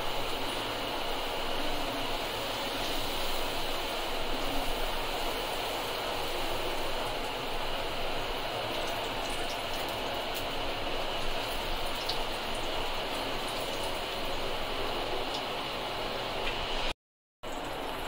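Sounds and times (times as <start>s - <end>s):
oil sizzling and bubbling: 0.0s - 18.0s.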